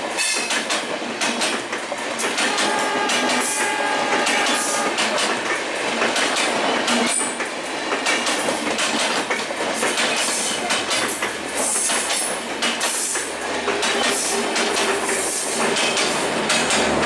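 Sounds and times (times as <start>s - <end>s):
train wheels rushing on rails: 0.0s - 17.0s
wheels clicking over track: 0.2s - 17.0s.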